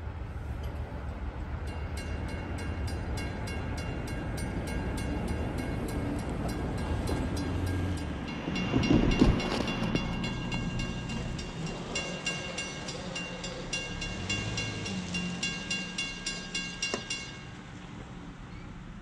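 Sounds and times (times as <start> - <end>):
passenger train rumbling: 0.0 - 19.0
crossing warning bell ringing: 1.7 - 17.8.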